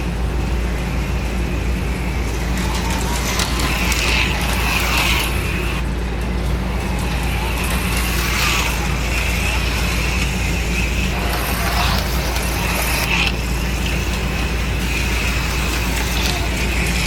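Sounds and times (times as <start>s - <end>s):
slot car electric motors whining: 0.0s - 17.0s
steady low hum: 0.0s - 17.0s.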